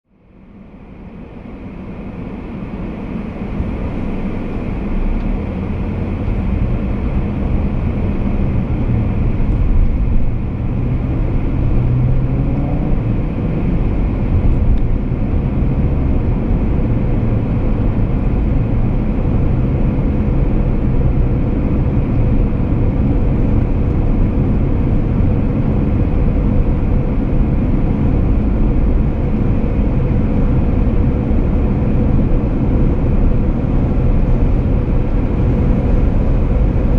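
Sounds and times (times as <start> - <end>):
car engine and road rumble: 0.1 - 36.9.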